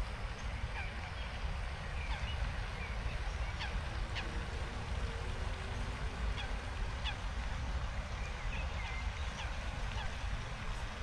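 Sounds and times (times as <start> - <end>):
waterbirds calling: 0.3 - 10.9.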